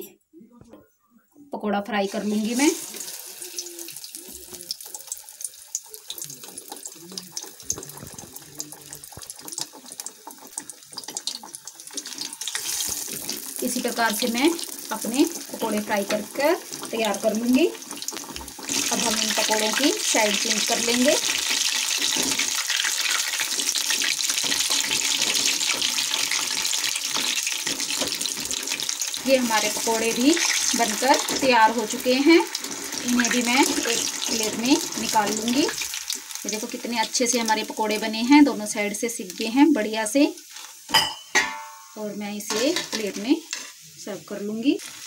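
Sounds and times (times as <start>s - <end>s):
deep-frying sizzle and crackle: 2.1s - 45.0s.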